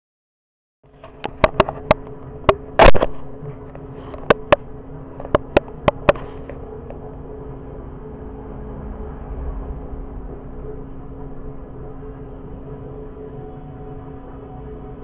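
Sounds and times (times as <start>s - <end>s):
low hum: 0.9s - 15.0s.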